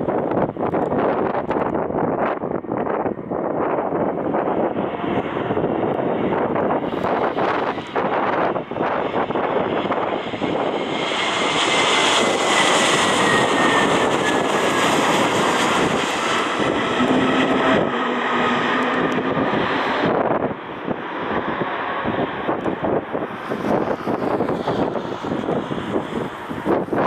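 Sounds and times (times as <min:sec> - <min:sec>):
jet airliner passing: 0:00.0 - 0:27.0.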